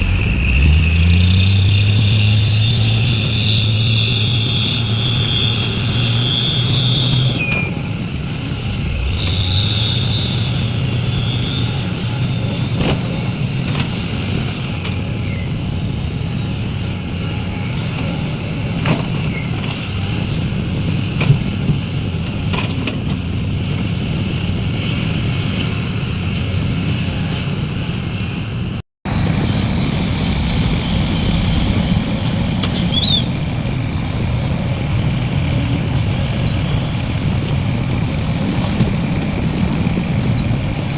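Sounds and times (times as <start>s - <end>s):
diesel excavator running: 0.0s - 27.2s, 29.1s - 40.9s.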